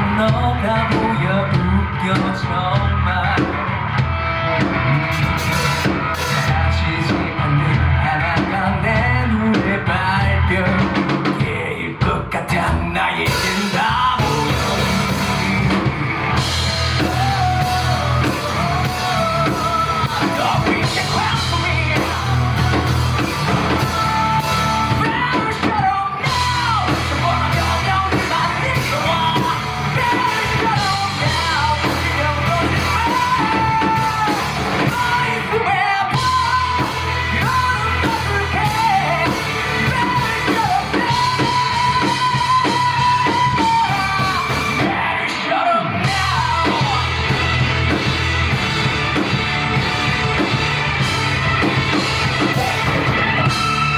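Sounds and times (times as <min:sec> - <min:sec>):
electric guitar: 0:00.0 - 0:12.0, 0:13.0 - 0:53.9
person singing lead vocal: 0:00.0 - 0:48.1, 0:51.5 - 0:53.9
bass guitar: 0:00.0 - 0:53.9
drums: 0:00.0 - 0:53.9
keyboard: 0:00.0 - 0:53.9.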